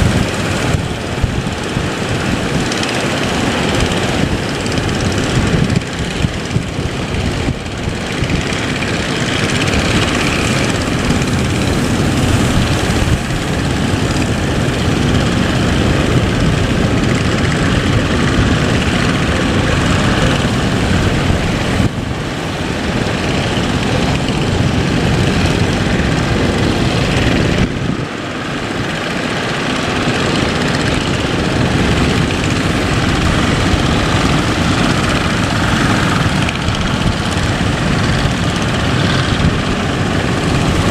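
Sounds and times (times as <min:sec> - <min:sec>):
boat engine running: 0:00.0 - 0:40.9
rushing water noise: 0:00.0 - 0:40.9.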